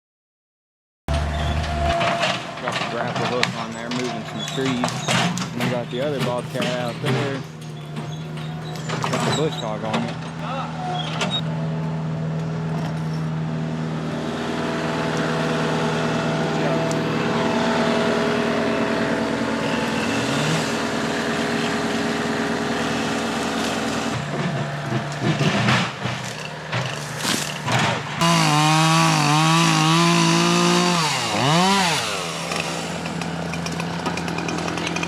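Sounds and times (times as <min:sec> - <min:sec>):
engine running hard: 0:01.1 - 0:35.0.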